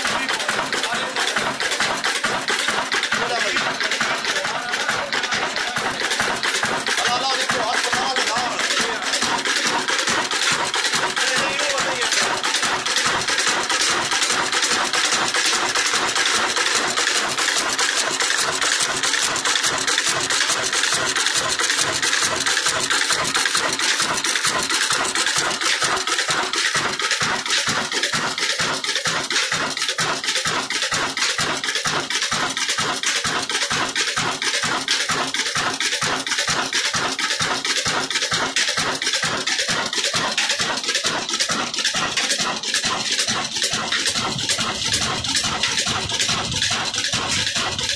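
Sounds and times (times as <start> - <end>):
diesel engine exhaust beat: 0.0 - 47.9
flour mill grinding: 0.0 - 47.9.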